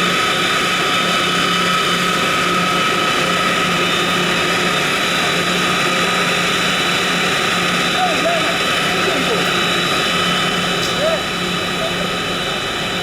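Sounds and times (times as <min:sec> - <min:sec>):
machine humming and whining: 0:00.0 - 0:13.0.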